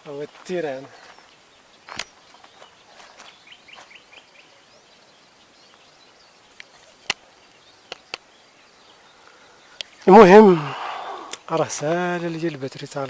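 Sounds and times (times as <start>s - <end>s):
small bird chirping: 0.1s - 11.6s.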